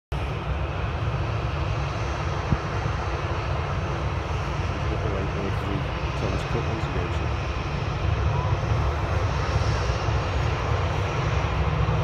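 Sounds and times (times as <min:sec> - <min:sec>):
jet engines rumbling with hiss: 0:00.1 - 0:12.0.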